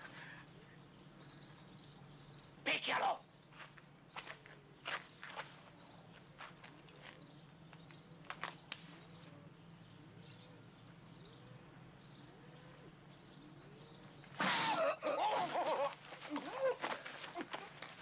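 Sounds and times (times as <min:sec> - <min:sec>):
distant birds calling: 0:00.0 - 0:18.0.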